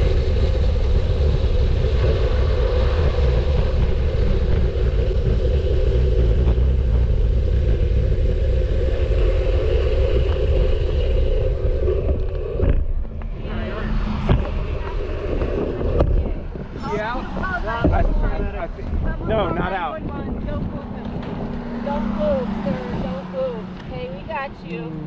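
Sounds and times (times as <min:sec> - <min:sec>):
bicycle road rumble: 0:00.0 - 0:25.0
wind rush: 0:00.0 - 0:25.0.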